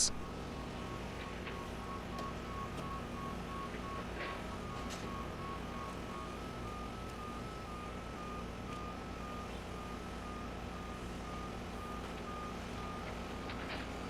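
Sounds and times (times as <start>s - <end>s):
diesel engine humming: 0.0s - 13.4s
reversing alarm beeping: 0.0s - 14.0s.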